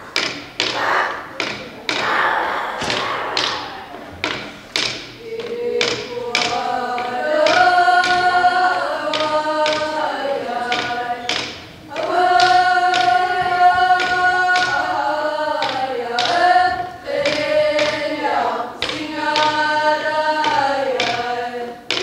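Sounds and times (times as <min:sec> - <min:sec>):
frame drum struck with stick: 0:00.1 - 0:22.0
women singing long held notes: 0:00.6 - 0:22.0.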